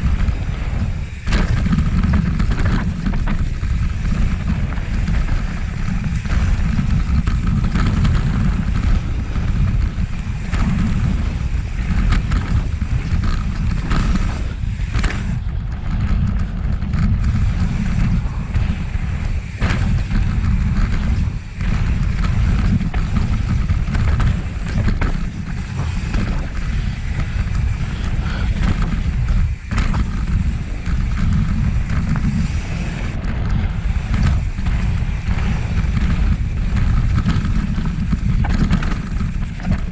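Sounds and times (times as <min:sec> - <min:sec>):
bike rattling over trail: 0:00.0 - 0:39.9
wind buffeting microphone: 0:00.0 - 0:39.9.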